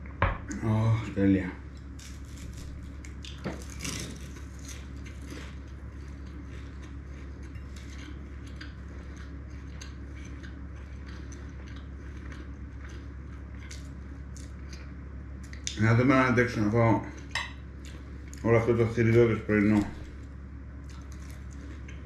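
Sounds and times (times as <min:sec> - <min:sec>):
steady low hum: 0:00.0 - 0:22.0
crisp pastry crackling when chewed: 0:01.6 - 0:22.0.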